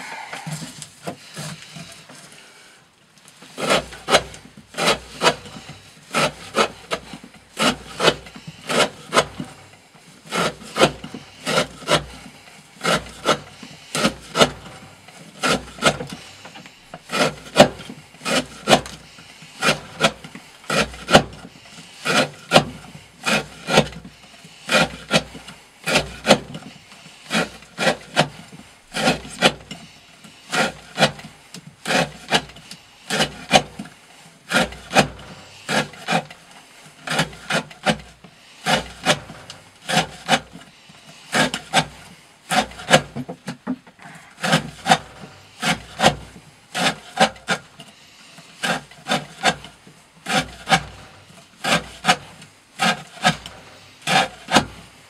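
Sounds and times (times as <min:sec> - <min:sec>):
knife shaving wooden stick: 0:03.2 - 0:55.0.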